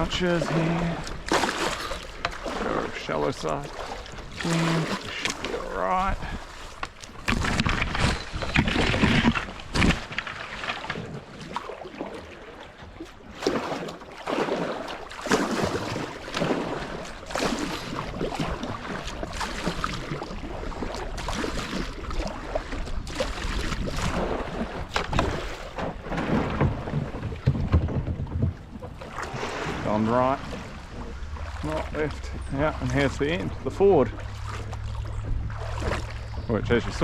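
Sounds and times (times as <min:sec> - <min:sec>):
paddle splashes: 0:00.0 - 0:37.0
water rushing around hull: 0:00.0 - 0:37.0.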